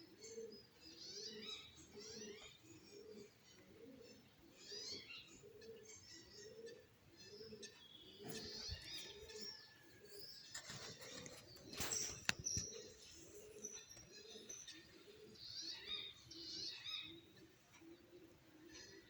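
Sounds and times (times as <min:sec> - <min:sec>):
doves cooing: 0:00.0 - 0:19.0
small birds chirping: 0:00.0 - 0:19.0.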